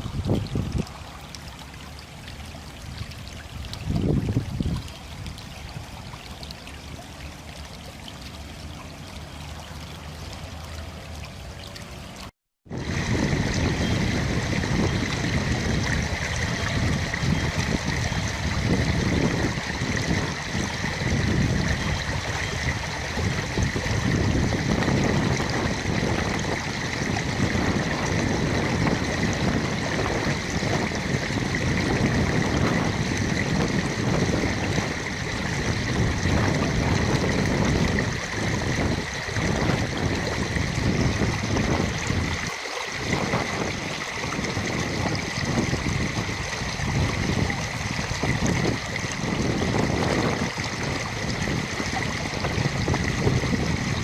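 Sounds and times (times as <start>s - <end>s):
stream water running: 0.0s - 54.0s.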